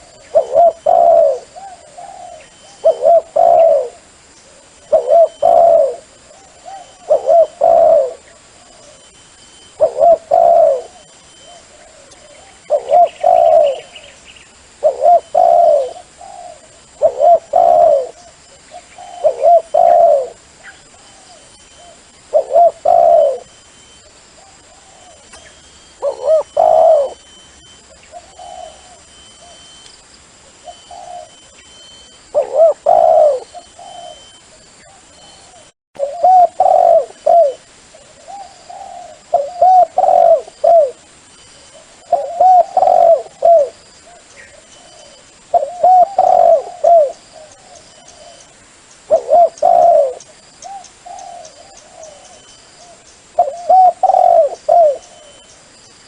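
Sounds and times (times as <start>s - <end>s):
dove cooing: 0.0s - 14.2s, 14.8s - 23.6s, 24.4s - 29.8s, 30.4s - 55.5s.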